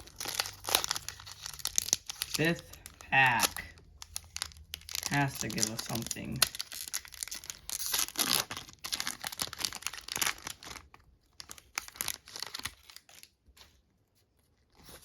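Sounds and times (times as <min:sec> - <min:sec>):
foil wrapper tearing and crinkling: 0:00.0 - 0:13.3.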